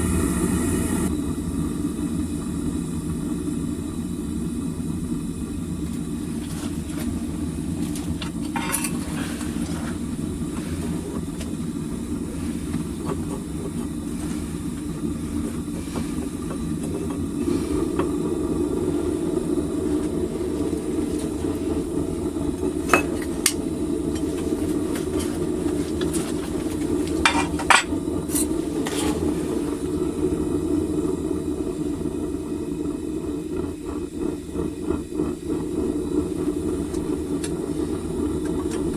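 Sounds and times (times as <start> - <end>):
propane burner rumbling rush: 0.0 - 38.9.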